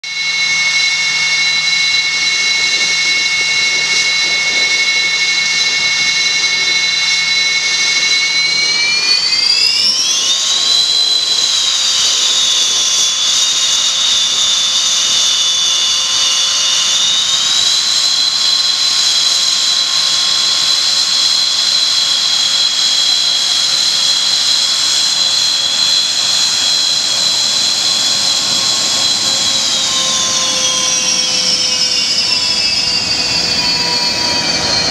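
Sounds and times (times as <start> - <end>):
jet engines whining: 0.0 - 34.9.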